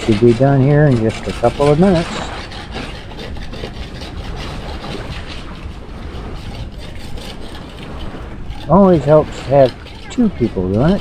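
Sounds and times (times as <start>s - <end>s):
scrapers rasping on boat hull: 0.0s - 11.0s.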